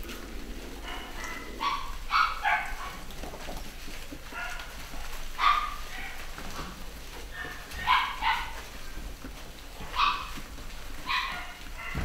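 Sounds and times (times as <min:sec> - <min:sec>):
puppies yipping: 0:00.8 - 0:12.0.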